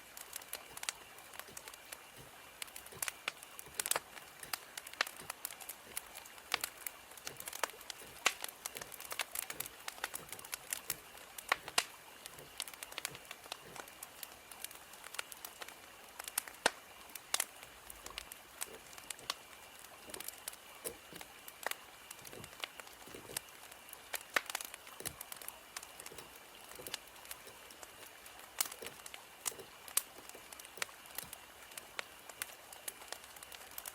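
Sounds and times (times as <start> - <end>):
soft steady hiss: 0.0 - 33.9
wood fire crackling: 0.0 - 33.9.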